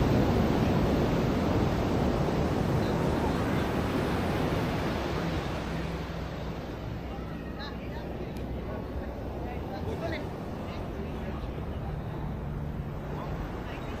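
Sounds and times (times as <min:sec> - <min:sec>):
surf washing onto beach: 0:00.0 - 0:14.0
faint voices of people: 0:00.1 - 0:14.0.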